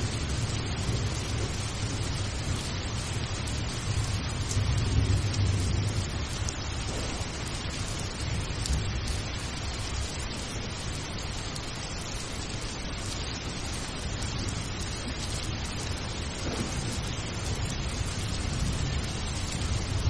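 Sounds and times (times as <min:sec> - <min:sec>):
rain hiss: 0:00.0 - 0:20.0.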